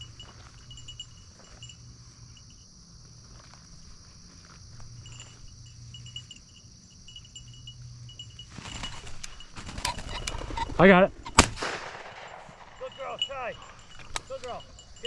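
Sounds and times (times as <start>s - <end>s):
faint tinkling: 0.0s - 2.8s, 4.4s - 10.8s, 12.0s - 15.0s
brush and dry grass rustling: 0.0s - 7.4s, 8.1s - 15.0s.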